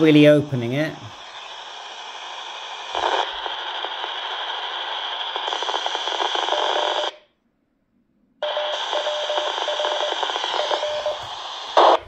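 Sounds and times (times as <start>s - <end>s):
radio speaker hissing and crackling: 0.0s - 7.2s, 8.4s - 12.0s.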